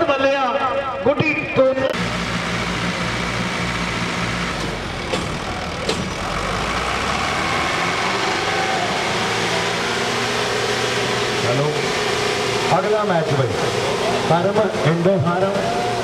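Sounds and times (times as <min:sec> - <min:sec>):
tractor diesel engines under load: 0:00.0 - 0:16.0.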